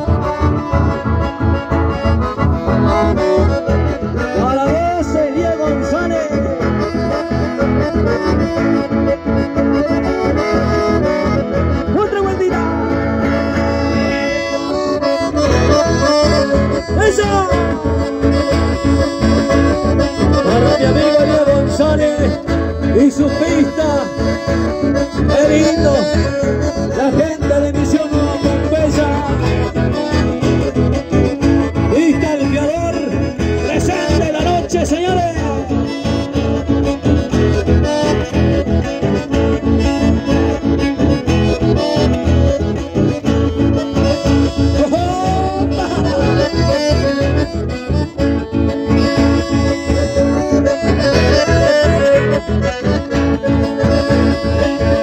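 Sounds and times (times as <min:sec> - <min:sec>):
accordion dance music with guitar: 0:00.0 - 0:55.0.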